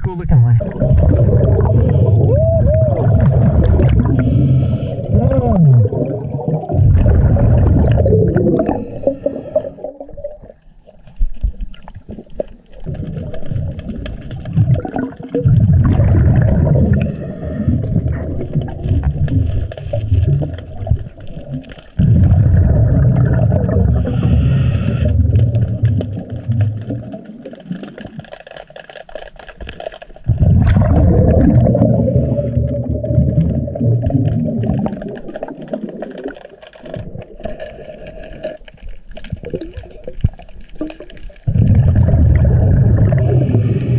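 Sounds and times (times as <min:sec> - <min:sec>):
underwater exhaled air bubbling: 0:00.0 - 0:28.4, 0:29.7 - 0:43.9
quiet gurgling and scraping: 0:00.0 - 0:43.9.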